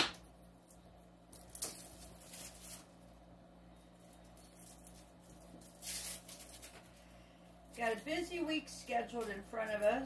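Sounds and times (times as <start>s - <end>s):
steady low hum: 0.0s - 10.0s
faint handling sounds: 0.5s - 10.0s.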